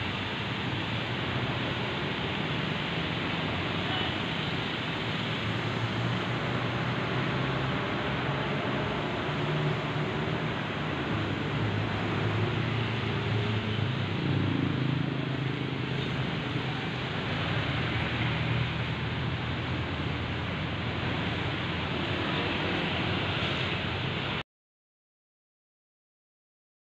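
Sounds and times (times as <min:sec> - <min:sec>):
traffic din: 0:00.0 - 0:24.4
vehicle engines passing: 0:00.0 - 0:24.4.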